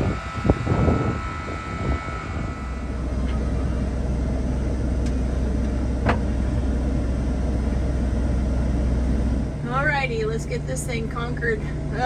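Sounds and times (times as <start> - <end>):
combine engine droning: 0.0 - 12.0.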